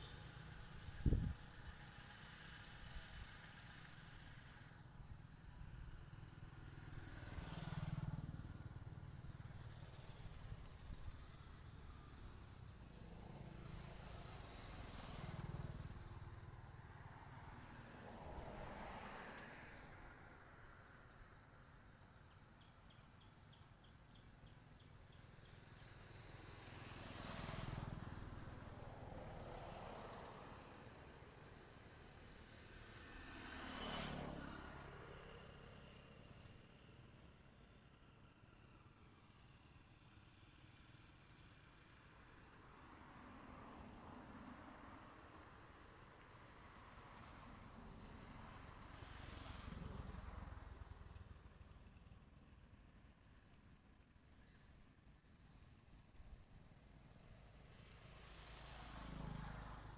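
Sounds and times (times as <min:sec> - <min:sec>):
passing engine: 0:00.0 - 0:21.5, 0:25.0 - 0:38.6, 0:40.6 - 0:53.3, 0:57.0 - 0:59.9.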